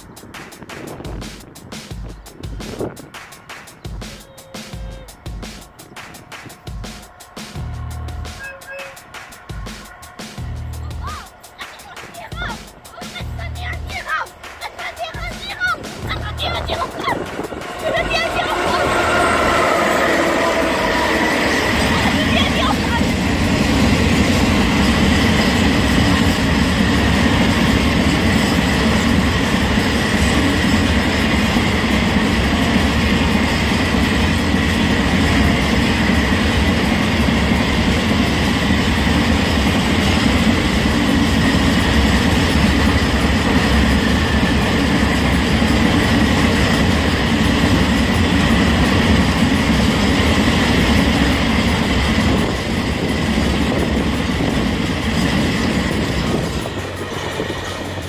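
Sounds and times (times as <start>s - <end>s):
steel wheels rumbling on rails: 0.0s - 58.0s
high whine: 2.8s - 11.6s, 13.4s - 58.0s.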